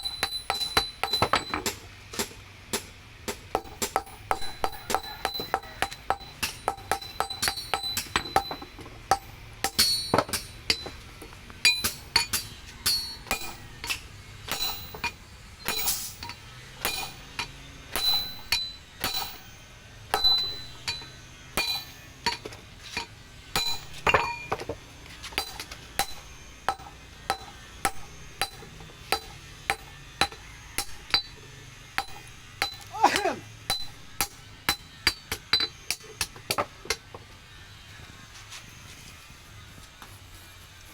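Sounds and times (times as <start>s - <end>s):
hammer striking steel on anvil: 0.0s - 37.2s.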